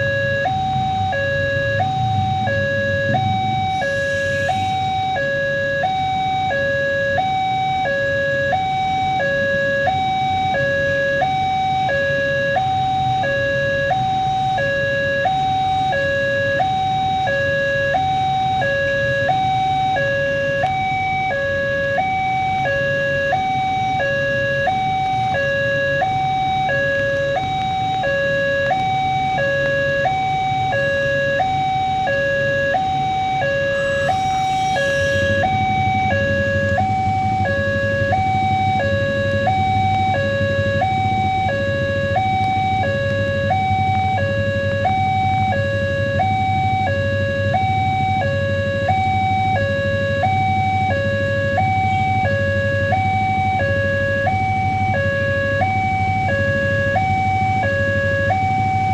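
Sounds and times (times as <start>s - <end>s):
two-tone crossing alarm: 0.0s - 58.9s.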